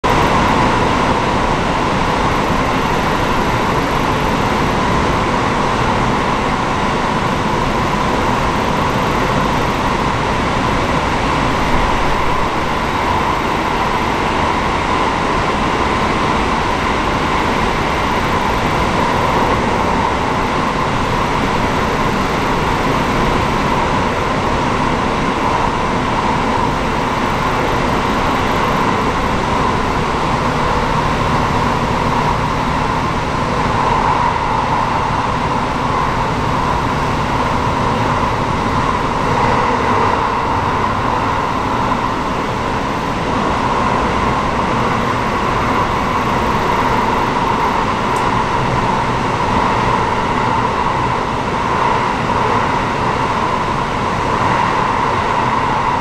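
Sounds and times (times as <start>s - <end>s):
diesel railcar interior hum: 0.0s - 56.0s
electric fans running: 0.0s - 56.0s.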